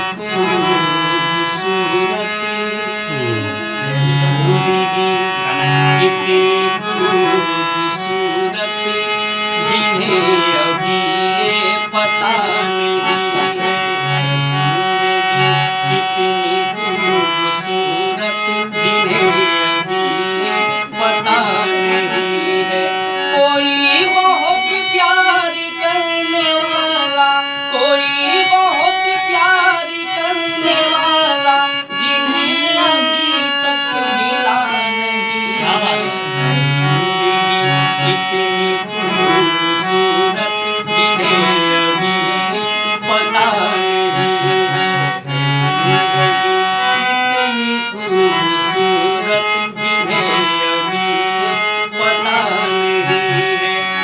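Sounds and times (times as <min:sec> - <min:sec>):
harmonium melody: 0:00.0 - 0:54.0
man singing: 0:00.0 - 0:54.0.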